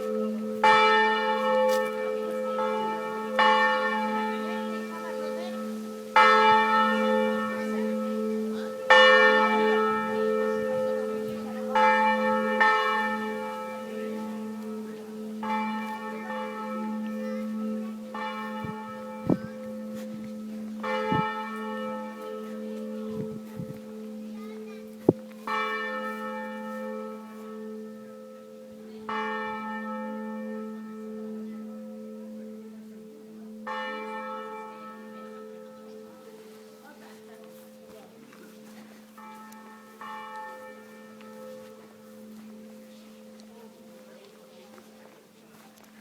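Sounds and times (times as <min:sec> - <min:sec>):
church bells tolling: 0:00.0 - 0:46.0.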